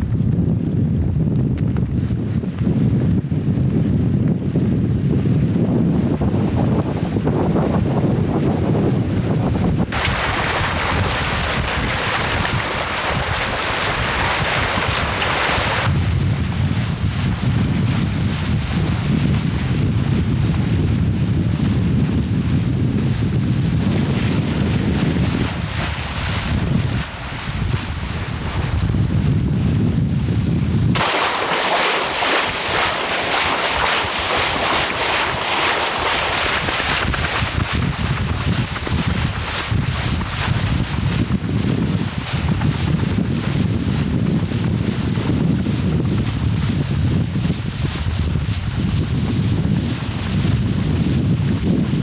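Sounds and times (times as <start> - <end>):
wind buffeting microphone: 0.0 - 52.0
water rushing past a boat: 4.6 - 52.0.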